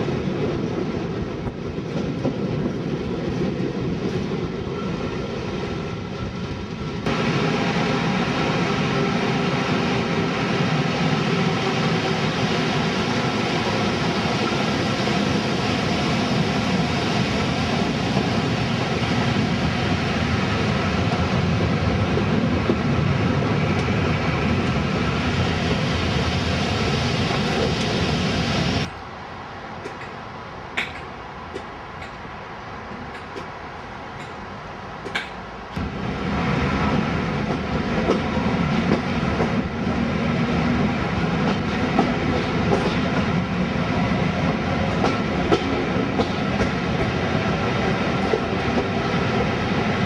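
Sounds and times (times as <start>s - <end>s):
train wheel and wind rush: 0.0s - 50.0s.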